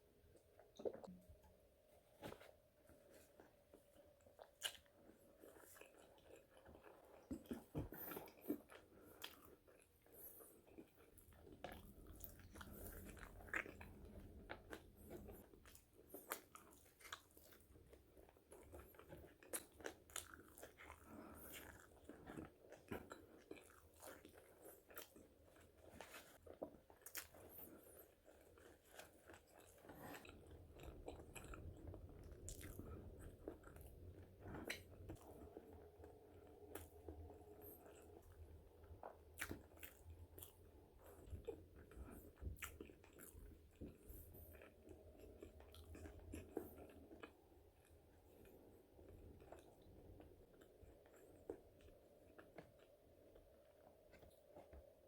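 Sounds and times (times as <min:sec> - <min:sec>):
person chewing crunchy fries: 0:03.0 - 0:55.0.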